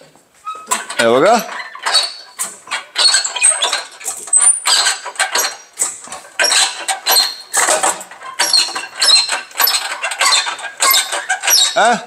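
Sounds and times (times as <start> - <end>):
crane chain squeaking: 0.4 - 12.0.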